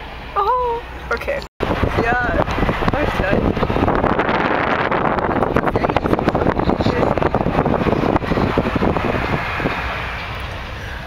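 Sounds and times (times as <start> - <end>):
car running and tyre noise: 1.1 - 11.0
wind rushing on microphone: 1.6 - 11.0.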